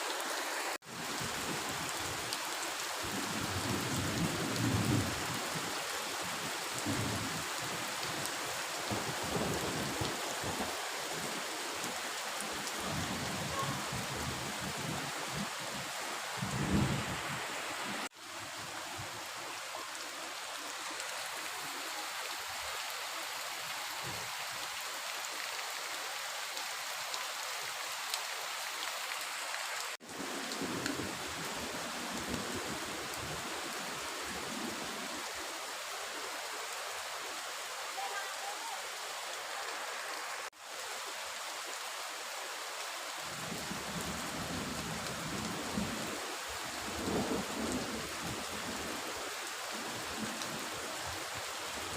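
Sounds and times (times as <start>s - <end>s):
heavy rain hissing: 0.0s - 51.9s.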